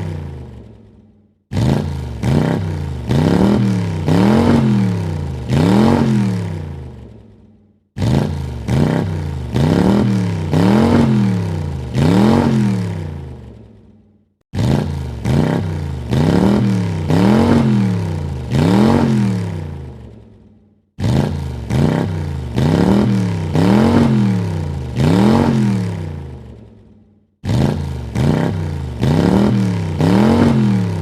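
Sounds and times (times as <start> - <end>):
car engine revving in blips: 0.0 - 0.9, 1.5 - 7.2, 8.0 - 13.4, 14.5 - 20.1, 21.0 - 26.6, 27.4 - 31.0.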